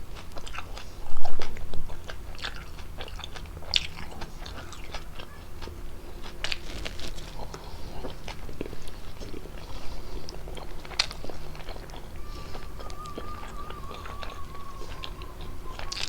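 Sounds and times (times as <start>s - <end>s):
chewing pasta: 0.0s - 16.0s.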